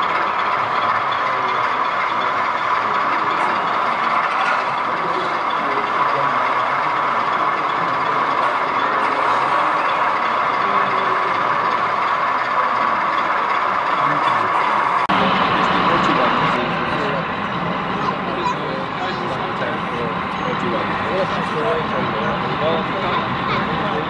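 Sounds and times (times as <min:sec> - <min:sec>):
diesel engine through small loudspeaker: 0:00.0 - 0:24.0.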